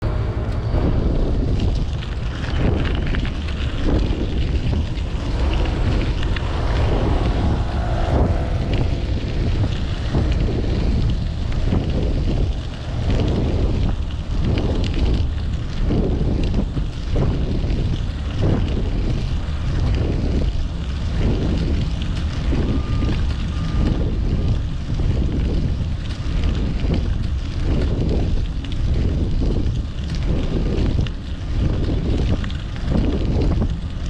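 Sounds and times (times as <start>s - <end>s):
street traffic: 0.0s - 28.9s
wind buffeting microphone: 0.0s - 34.0s.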